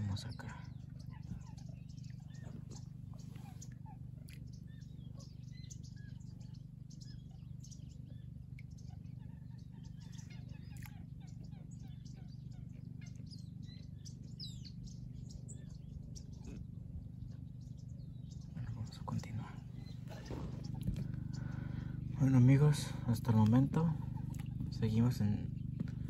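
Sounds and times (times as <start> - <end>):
low background rumble: 0.0 - 26.0
small birds chirping: 0.0 - 26.0.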